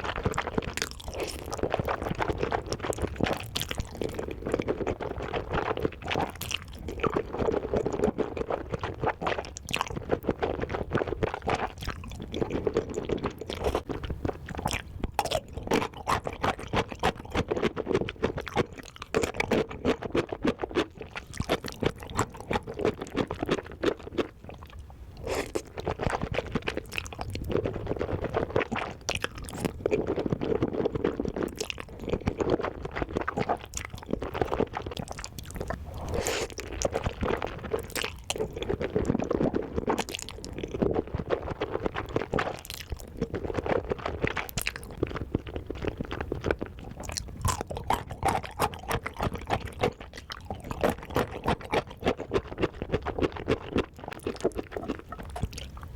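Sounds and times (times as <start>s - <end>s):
wet chewing with crunchy bites: 0.0s - 55.9s.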